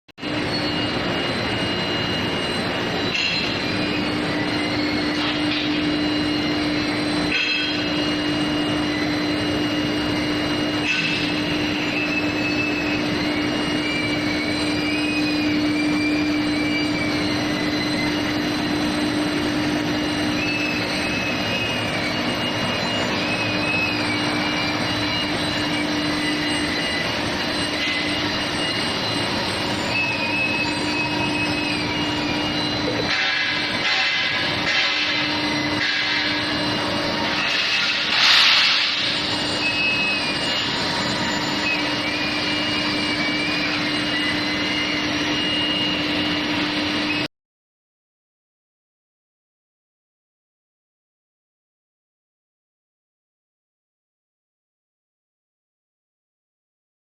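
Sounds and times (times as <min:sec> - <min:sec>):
high steady machine whine: 0:00.2 - 0:47.3
industrial machine humming: 0:00.2 - 0:47.3
wavering high squeals: 0:00.2 - 0:47.3.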